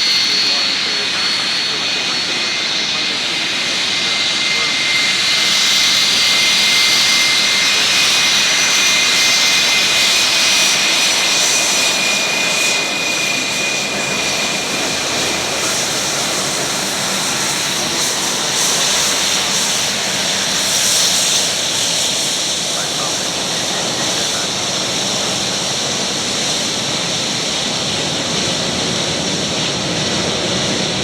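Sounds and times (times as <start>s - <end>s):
jet engines rushing and whining: 0.0s - 31.0s.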